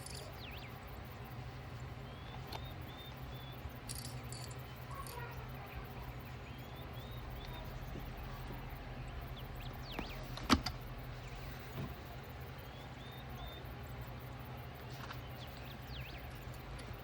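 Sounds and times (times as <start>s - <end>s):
faint bird chirps: 0.0s - 17.0s
steady low hum: 0.0s - 17.0s.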